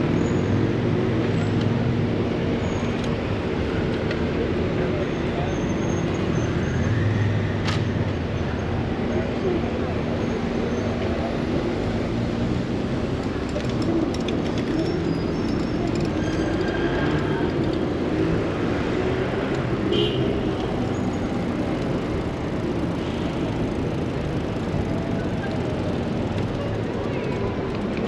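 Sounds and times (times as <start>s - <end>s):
passing vehicles engines and tyres: 0.0s - 28.0s.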